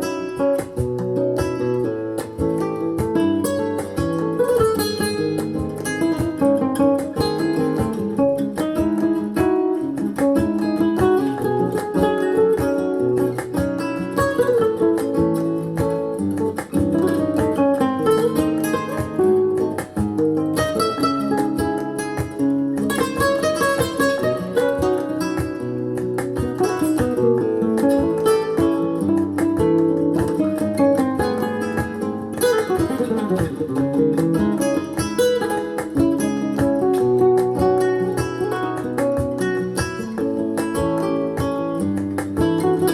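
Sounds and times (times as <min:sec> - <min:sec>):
acoustic guitar through loudspeaker: 0:00.0 - 0:42.9.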